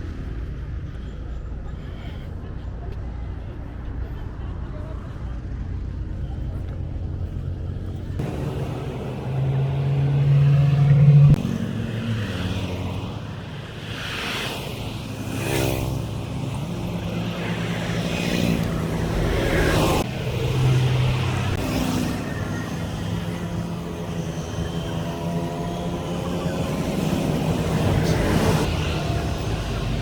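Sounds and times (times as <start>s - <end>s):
vehicle engines humming: 0.0s - 30.0s
vehicles passing close by: 0.0s - 30.0s.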